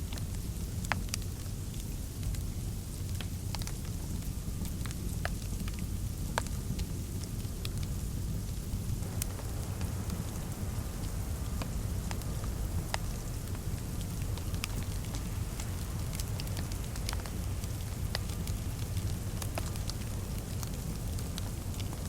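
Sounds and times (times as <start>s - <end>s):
fire crackling and popping: 0.0s - 22.0s
low fire rumble: 0.0s - 22.0s.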